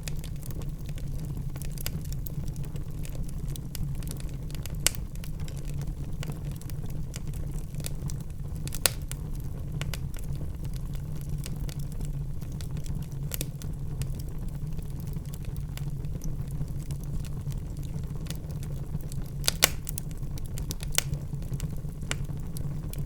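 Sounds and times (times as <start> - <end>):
fire crackles: 0.0 - 23.0
loud fire pops: 0.0 - 23.0
wood fire rumbling: 0.0 - 23.0.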